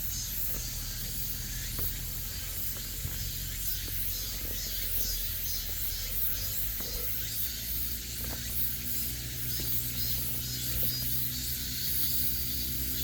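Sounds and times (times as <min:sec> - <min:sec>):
insect chorus hissing: 0:00.0 - 0:13.0.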